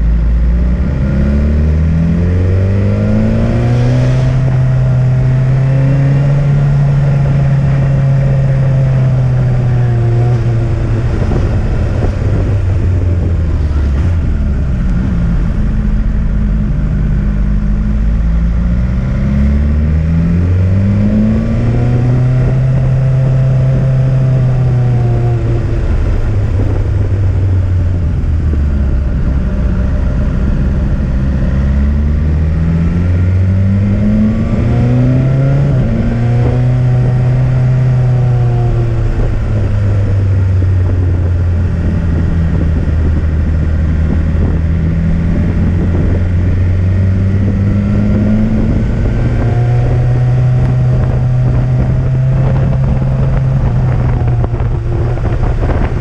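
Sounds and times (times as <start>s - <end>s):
motorcycle engine accelerating: 0.0s - 56.0s
road noise: 0.0s - 56.0s
wind: 0.0s - 56.0s.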